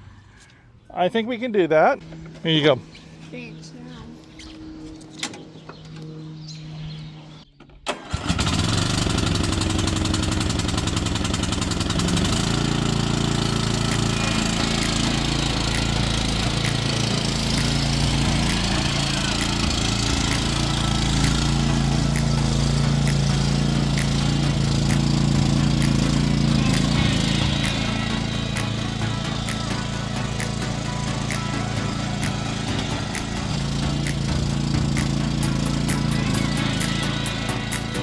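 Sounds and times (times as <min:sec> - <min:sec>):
riding lawn mower engine starting: 0:02.0 - 0:03.6, 0:04.6 - 0:38.0.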